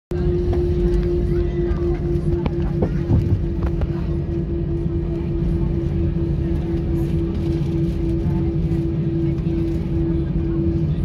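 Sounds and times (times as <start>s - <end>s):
aircraft cabin rumble: 0.1s - 11.0s
constant hum-like tone: 0.1s - 11.0s.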